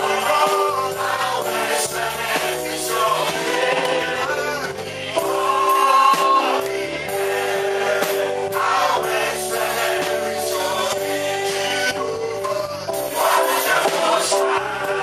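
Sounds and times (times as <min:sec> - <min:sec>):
choir singing gospel song: 0:00.0 - 0:15.0
instrumental accompaniment: 0:00.0 - 0:15.0.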